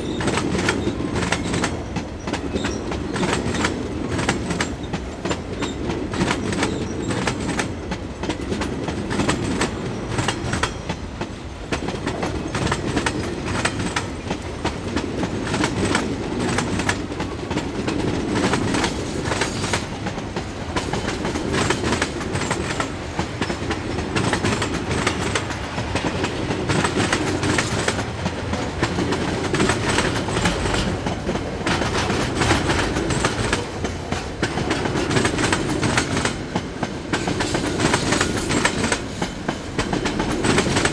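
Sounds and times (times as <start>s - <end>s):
train low rumble: 0.0s - 40.9s
train wheels clattering over joints: 0.0s - 40.9s.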